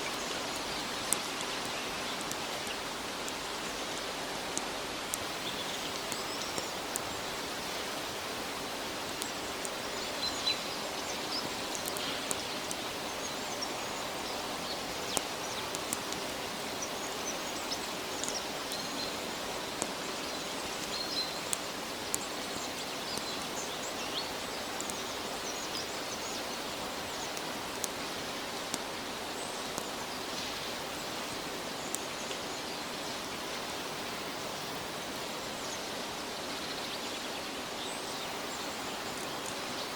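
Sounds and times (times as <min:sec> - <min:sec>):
water drips ticking: 0:00.0 - 0:32.5
rain pattering in forest: 0:00.0 - 0:39.9.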